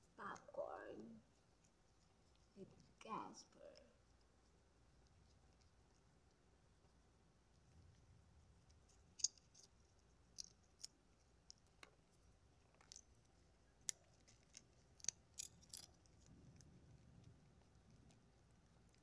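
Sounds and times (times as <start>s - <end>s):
cat crunching popcorn: 0.3s - 19.0s.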